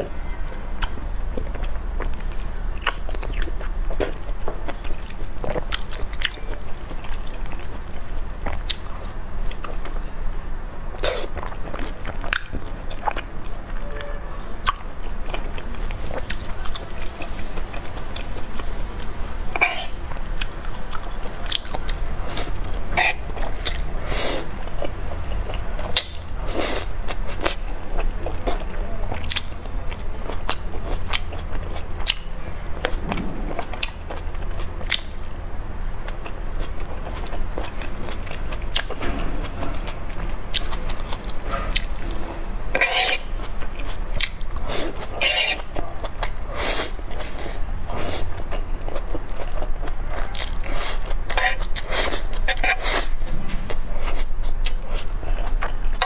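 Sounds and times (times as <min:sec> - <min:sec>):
chewing and biting food: 0:00.8 - 0:10.1, 0:10.9 - 0:14.0, 0:14.6 - 0:56.0.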